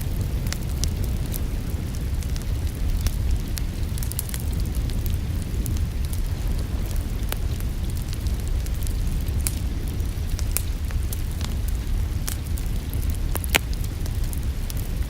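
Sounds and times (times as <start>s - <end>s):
wood fire burning: 0.0s - 15.0s.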